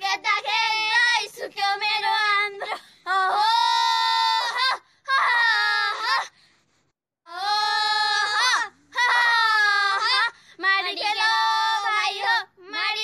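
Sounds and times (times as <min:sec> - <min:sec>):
high female voices singing: 0:00.0 - 0:04.8, 0:07.3 - 0:13.0.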